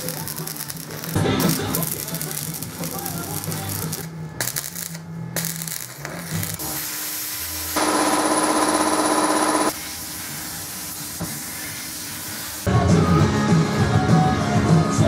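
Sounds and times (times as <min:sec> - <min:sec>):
welding arc crackling and buzzing: 0:00.0 - 0:12.7.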